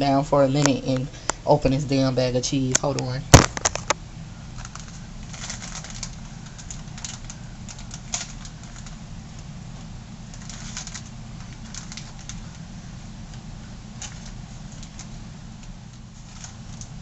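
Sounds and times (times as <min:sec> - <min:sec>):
steady low hum: 0:00.0 - 0:17.0
plastic bag crinkling: 0:03.3 - 0:17.0.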